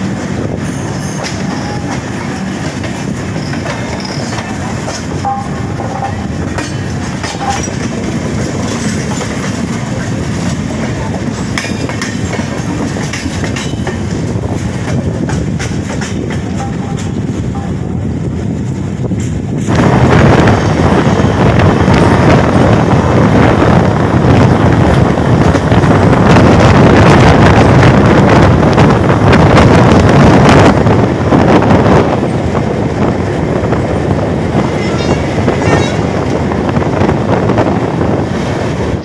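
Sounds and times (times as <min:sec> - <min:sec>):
train coaches rumbling on track: 0:00.0 - 0:39.0
wind rushing over microphone: 0:00.0 - 0:39.0.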